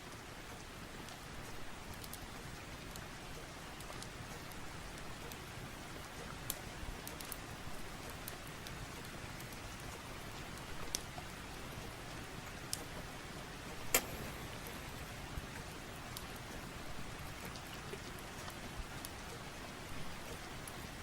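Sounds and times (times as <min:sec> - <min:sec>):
steady rain: 0:00.0 - 0:21.0
wood fire popping and crackling: 0:01.9 - 0:21.0.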